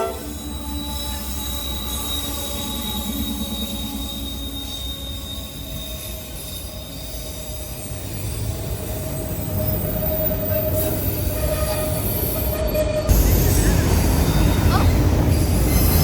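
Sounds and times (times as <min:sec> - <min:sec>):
freight train rumbling past: 0:00.0 - 0:16.0
high wheel squeal: 0:00.0 - 0:16.0.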